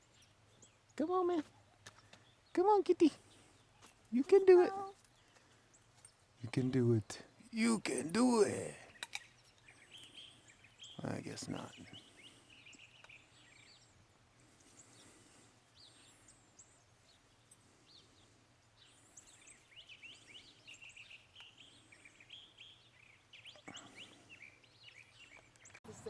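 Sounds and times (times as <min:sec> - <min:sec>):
faint small birds chirping: 0:00.0 - 0:26.0
quiet outdoor hiss: 0:00.0 - 0:26.0.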